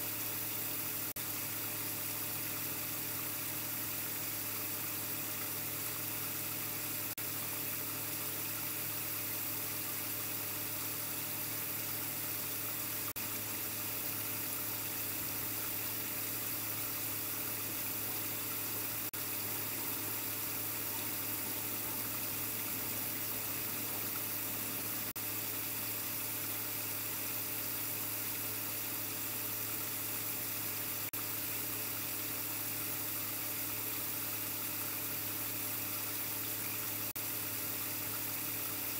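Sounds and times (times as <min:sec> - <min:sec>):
steady low hum and hiss: 0:00.0 - 0:38.9.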